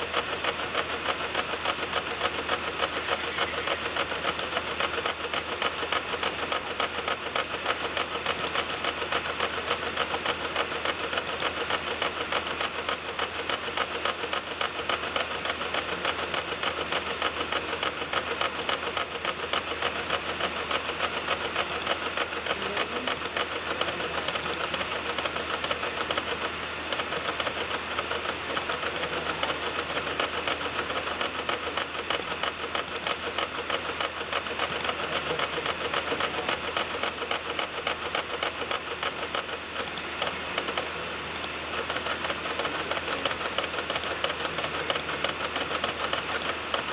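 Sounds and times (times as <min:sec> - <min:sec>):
dvd drive clicking and spinning: 0:00.0 - 0:46.9.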